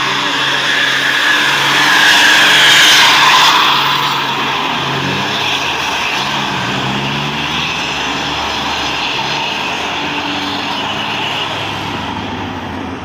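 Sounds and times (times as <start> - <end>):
bus diesel engine labouring: 0.0 - 13.0
road noise: 0.0 - 13.0.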